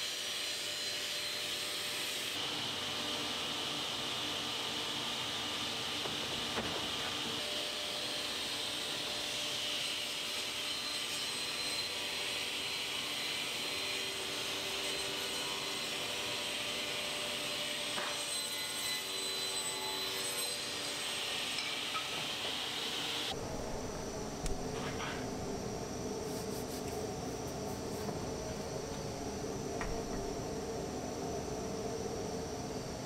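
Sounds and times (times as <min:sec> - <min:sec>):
workshop machinery hissing: 0:00.0 - 0:31.0.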